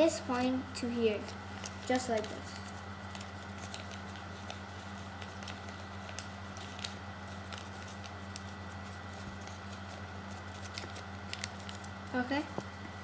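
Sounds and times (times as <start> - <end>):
low electrical hum: 0.0 - 13.0
paper crinkling while folded: 0.3 - 13.0.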